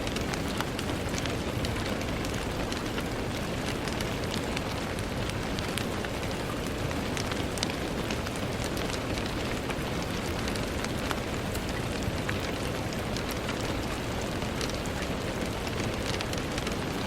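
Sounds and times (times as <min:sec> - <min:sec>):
rain on a window: 0:00.0 - 0:17.0.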